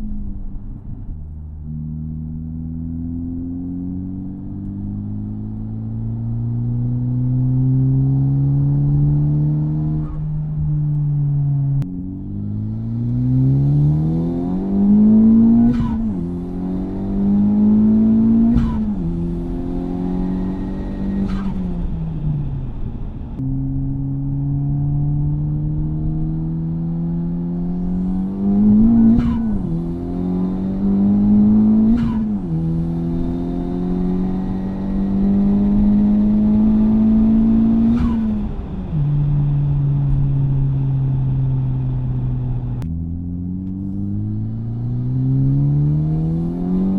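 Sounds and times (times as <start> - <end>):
car engine accelerating through gears: 0.0 - 46.9.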